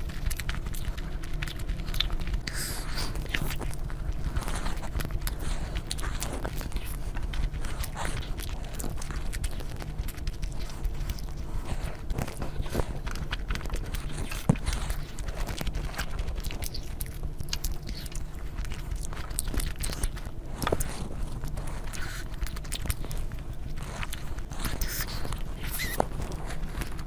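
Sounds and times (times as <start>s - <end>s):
low hum: 0.0s - 27.0s
person chewing and biting: 0.0s - 27.0s.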